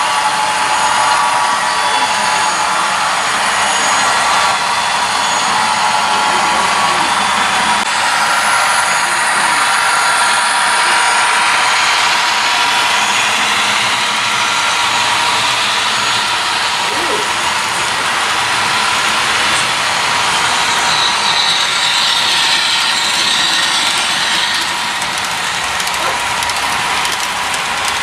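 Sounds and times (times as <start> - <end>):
model trains rolling on track: 0.0 - 28.0.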